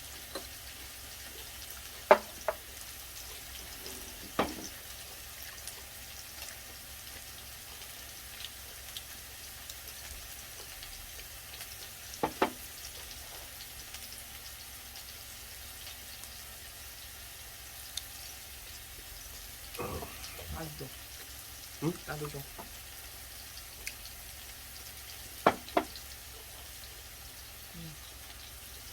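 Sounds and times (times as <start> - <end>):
beef sizzling in hot oil: 0.0 - 28.9.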